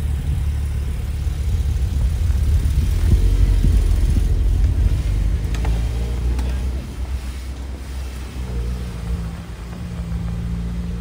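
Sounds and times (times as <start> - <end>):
car engine rumbling at low revs: 0.0 - 11.0.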